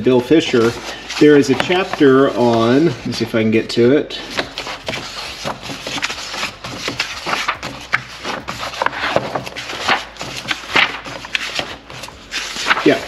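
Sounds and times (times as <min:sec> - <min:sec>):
book pages rustling: 0:00.0 - 0:03.5, 0:04.2 - 0:13.0.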